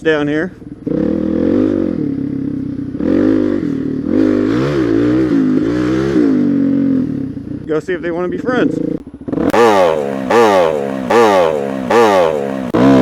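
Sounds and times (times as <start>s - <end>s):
motorcycle engine revving: 0.6s - 7.7s, 8.5s - 13.0s.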